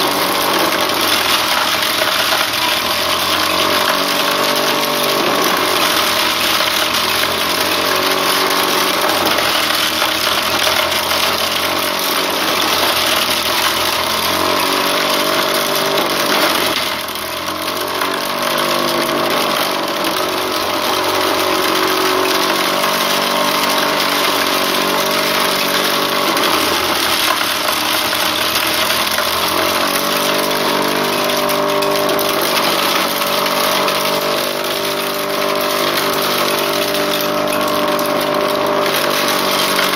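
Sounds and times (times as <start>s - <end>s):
corn sheller motor running: 0.0s - 39.9s.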